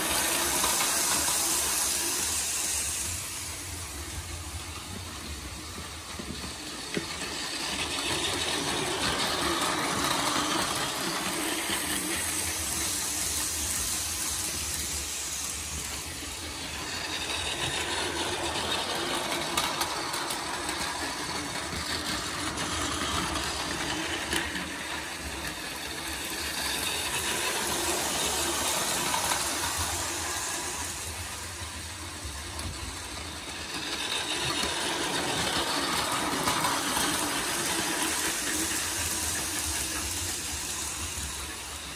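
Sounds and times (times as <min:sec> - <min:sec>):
toy train motor whirring: 0:00.0 - 0:41.9.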